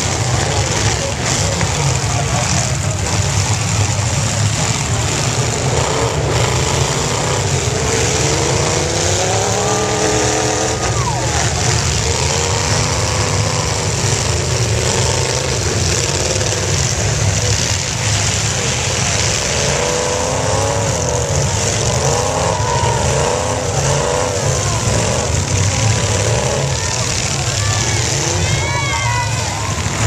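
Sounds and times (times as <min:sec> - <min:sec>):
car engines running: 0:00.0 - 0:30.0
engine revving: 0:00.0 - 0:30.0.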